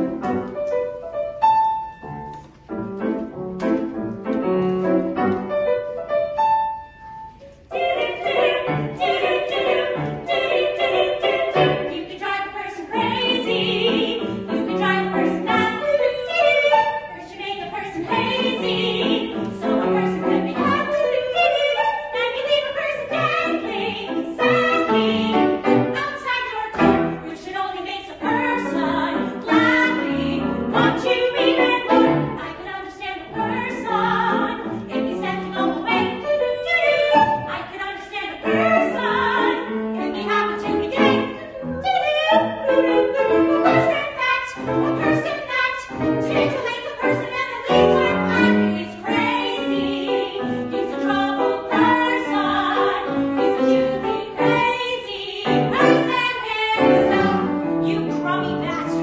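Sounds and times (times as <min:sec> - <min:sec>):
piano accompaniment: 0:00.0 - 0:59.0
women singing in harmony: 0:07.7 - 0:59.0.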